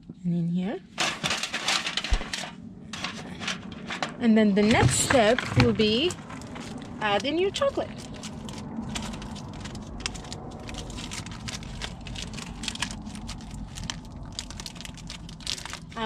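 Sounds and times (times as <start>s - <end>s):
steady low rumble: 0.0s - 16.0s
wrapper crinkling: 0.9s - 16.0s.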